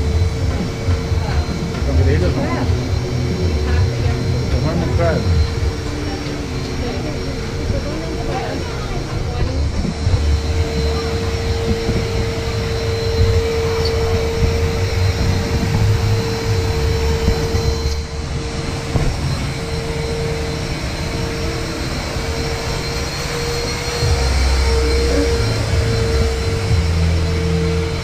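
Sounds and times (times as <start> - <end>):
machine drone: 0.0 - 28.0.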